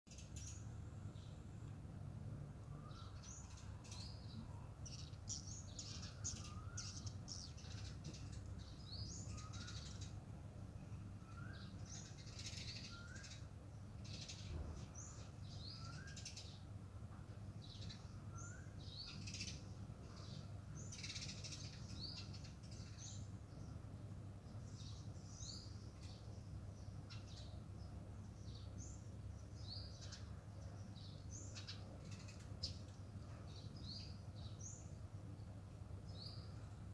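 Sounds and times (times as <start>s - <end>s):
steady low hum: 0.1s - 36.9s
birds chirping: 2.5s - 16.8s, 17.6s - 36.9s.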